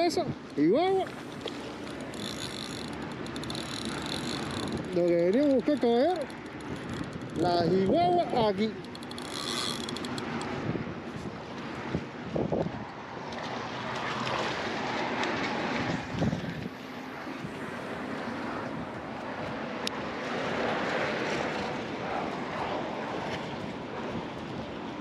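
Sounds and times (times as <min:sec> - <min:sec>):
choppy sea water: 0:00.0 - 0:25.0
wind gusting over microphone: 0:00.0 - 0:25.0.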